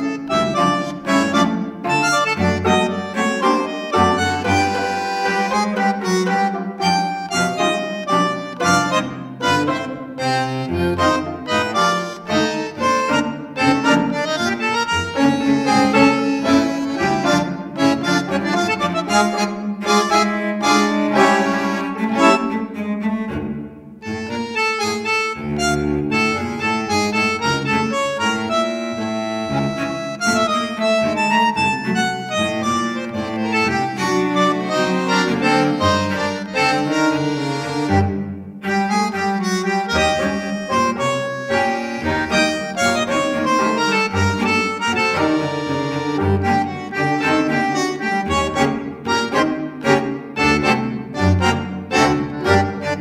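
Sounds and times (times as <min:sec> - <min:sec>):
instrumental background music: 0:00.0 - 0:53.0.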